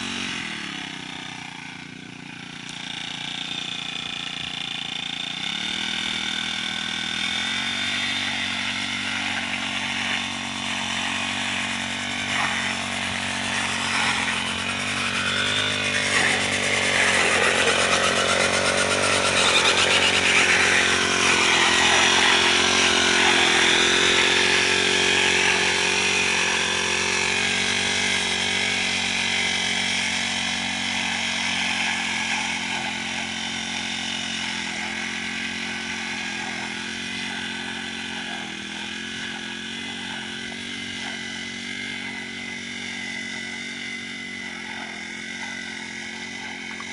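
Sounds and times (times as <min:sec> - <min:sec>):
brush cutter cutting weeds: 0:00.0 - 0:46.9.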